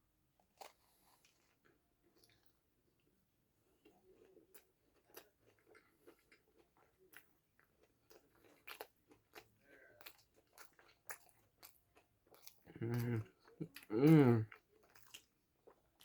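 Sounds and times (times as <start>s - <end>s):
crunching and chewing food: 0.3s - 16.0s.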